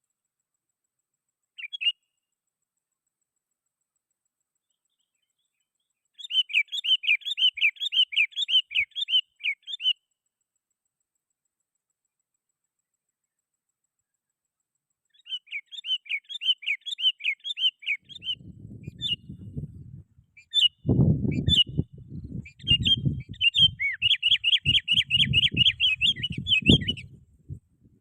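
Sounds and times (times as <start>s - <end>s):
bulbul chirping song: 1.4s - 2.4s, 3.9s - 10.2s, 12.6s - 28.0s.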